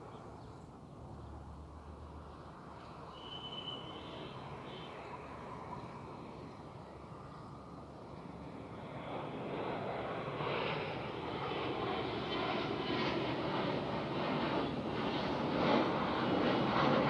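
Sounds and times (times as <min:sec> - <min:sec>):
airplane engines: 0:00.0 - 0:17.0.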